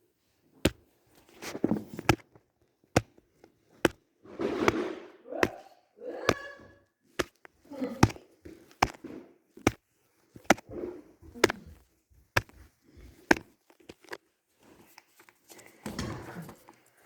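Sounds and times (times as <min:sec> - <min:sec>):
soft rustling: 0:00.0 - 0:17.0.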